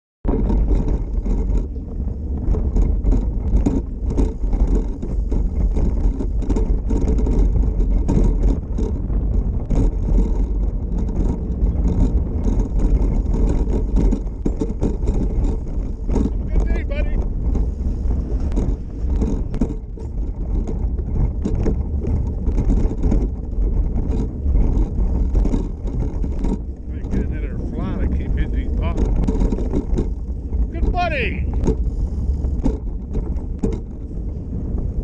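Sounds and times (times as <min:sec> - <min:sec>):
wind buffeting microphone: 0:00.2 - 0:35.0
small vehicle rolling on pavement: 0:00.3 - 0:35.0.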